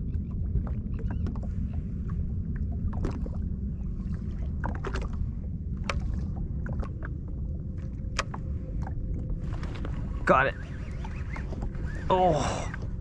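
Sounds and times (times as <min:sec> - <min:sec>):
steady low rumble: 0:00.0 - 0:13.0
waves lapping against a hull: 0:00.0 - 0:13.0.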